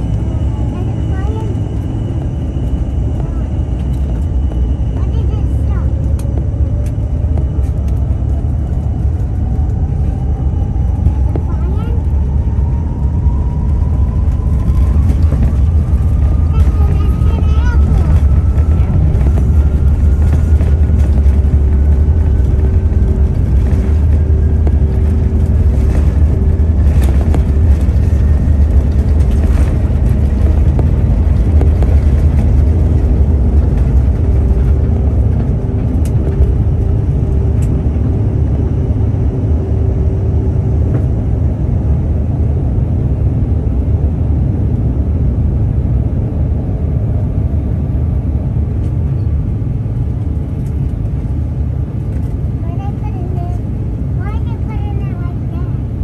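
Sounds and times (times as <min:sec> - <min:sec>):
heavy rumble: 0:00.0 - 0:56.0
jet engines at takeoff thrust: 0:00.0 - 0:56.0.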